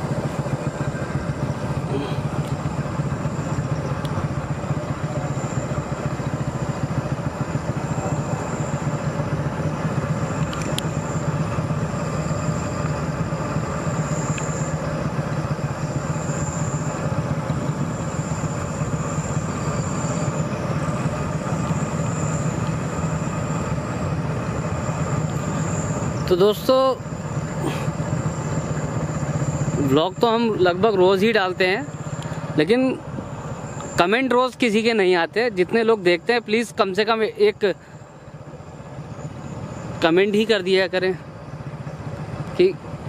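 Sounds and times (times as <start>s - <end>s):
motorcycle engine drone: 0.0s - 43.0s
road rumble: 0.0s - 43.0s
thin high whine: 0.0s - 43.0s.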